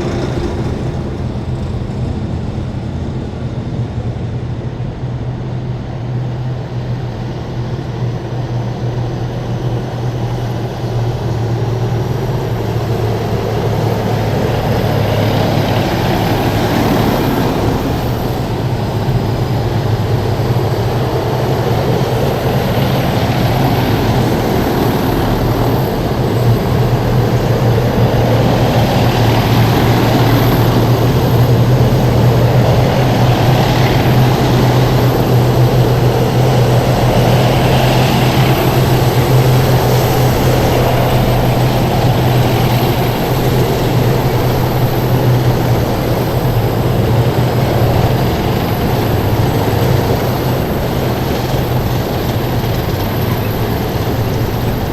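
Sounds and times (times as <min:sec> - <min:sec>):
heavy diesel vehicles driving past: 0:00.0 - 0:07.1, 0:10.7 - 0:54.9
road noise: 0:00.0 - 0:07.6, 0:10.2 - 0:54.9.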